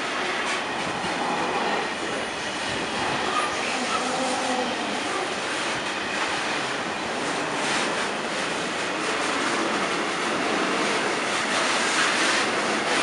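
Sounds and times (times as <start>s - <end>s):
steel wheels rushing on rail: 0.0s - 13.0s.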